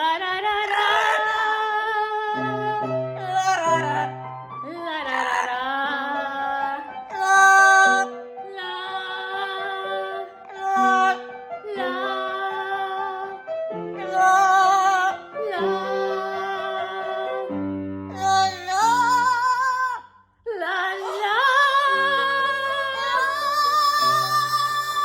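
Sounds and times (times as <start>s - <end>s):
piano chords: 0.0s - 20.0s, 20.6s - 25.0s.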